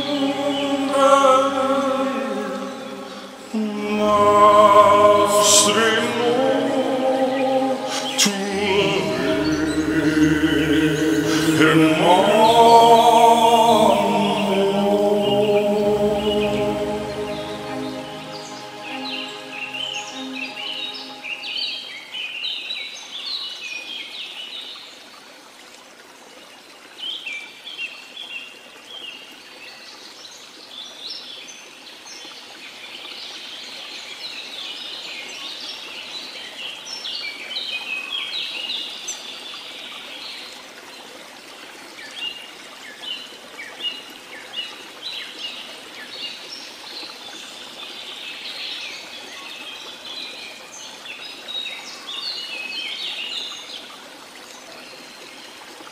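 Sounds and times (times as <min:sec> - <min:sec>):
running water: 0:00.0 - 0:23.1, 0:24.6 - 0:55.9.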